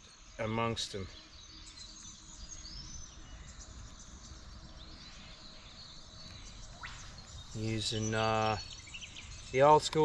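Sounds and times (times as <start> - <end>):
birds chirping: 0.0 - 10.0
insects humming: 0.0 - 10.0.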